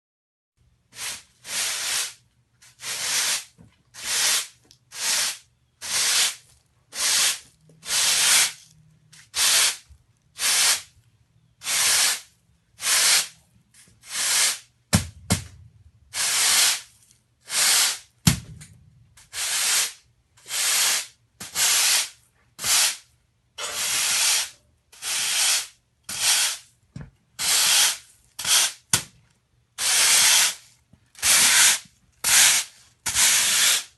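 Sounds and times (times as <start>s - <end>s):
push broom sweeping concrete: 1.0s - 10.9s, 11.6s - 14.7s, 16.1s - 18.1s, 19.2s - 23.0s, 23.6s - 26.7s, 27.4s - 28.9s, 29.8s - 33.9s.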